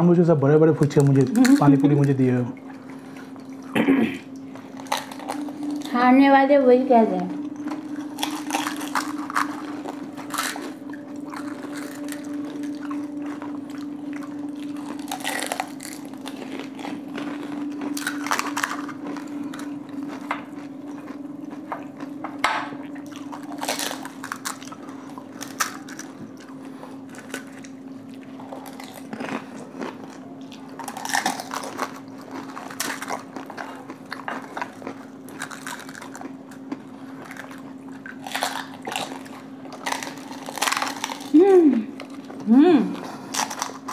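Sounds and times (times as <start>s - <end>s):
low hum: 0.0s - 43.9s
crisp shells crunching when chewed: 0.8s - 2.4s, 4.5s - 5.9s, 7.4s - 22.1s, 23.0s - 43.9s.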